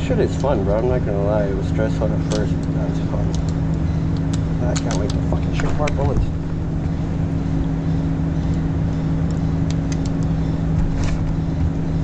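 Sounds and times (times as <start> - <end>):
mechanical drone with low hum: 0.0 - 12.0.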